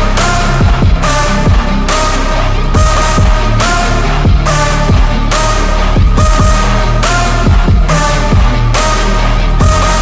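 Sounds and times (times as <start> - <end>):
dubstep instrumental with heavy bass: 0.0 - 10.0.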